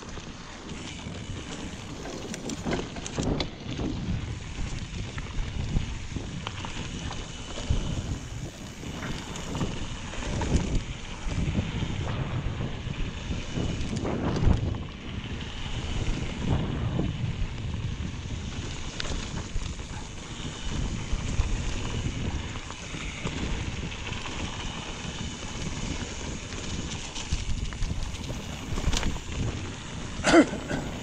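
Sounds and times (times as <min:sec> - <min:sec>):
bike rattling over bumps: 0:00.0 - 0:31.0
tyres rolling on dirt trail: 0:00.0 - 0:31.0
wind buffeting microphone: 0:00.0 - 0:31.0.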